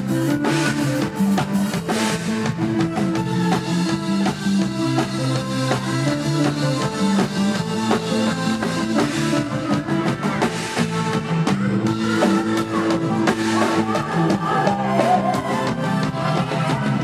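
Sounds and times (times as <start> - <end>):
bass notes: 0.0 - 17.0
drum kit beat: 0.0 - 17.0
guitar: 0.0 - 17.0.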